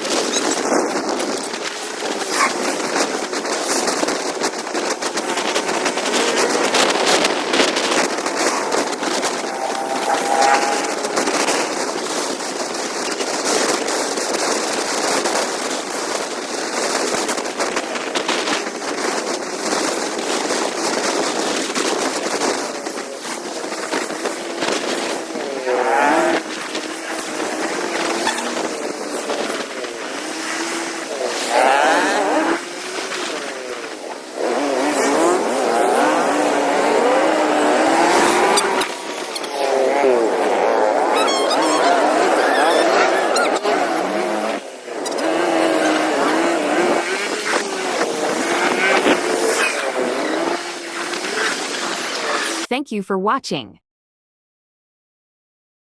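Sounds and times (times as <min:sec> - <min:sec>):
motorcycle engine: 0:00.0 - 0:17.3, 0:23.8 - 0:52.7
wind noise: 0:00.0 - 0:52.6.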